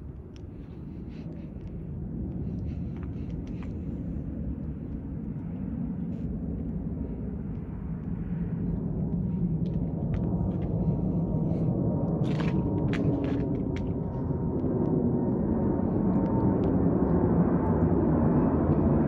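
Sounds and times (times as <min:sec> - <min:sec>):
jet engines low rumble: 0:00.0 - 0:19.0.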